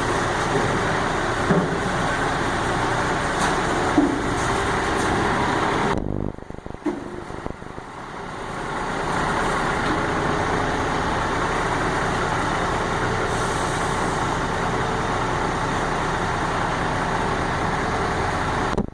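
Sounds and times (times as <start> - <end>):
truck engine running: 0.0 - 18.9.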